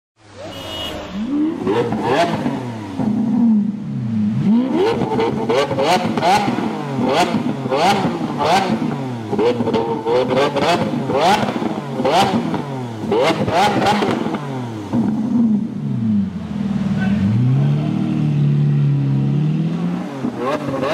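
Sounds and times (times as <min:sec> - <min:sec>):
sports car engine revving: 0:01.2 - 0:20.9.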